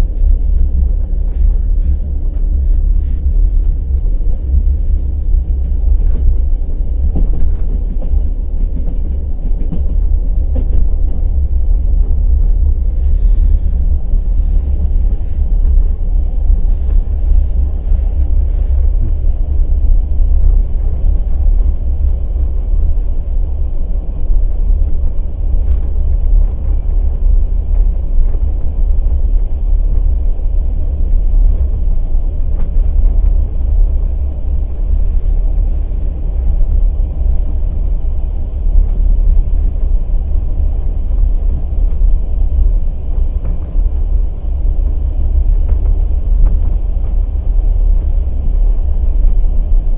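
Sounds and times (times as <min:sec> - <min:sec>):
train wheels rumbling: 0:00.0 - 0:49.9.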